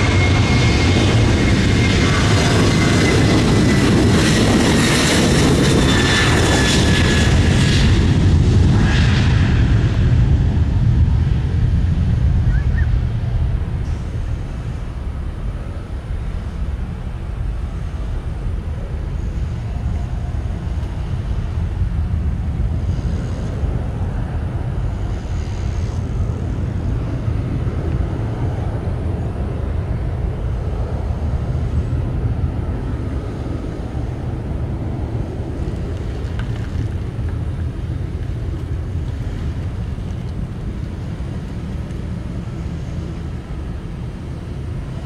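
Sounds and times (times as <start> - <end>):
airliner engine rumble: 0.0 - 45.0.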